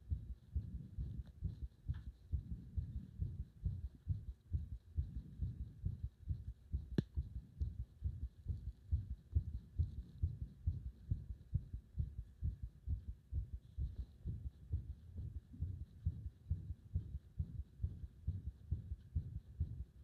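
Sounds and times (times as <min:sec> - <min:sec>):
heartbeat thuds: 0:00.0 - 0:20.0.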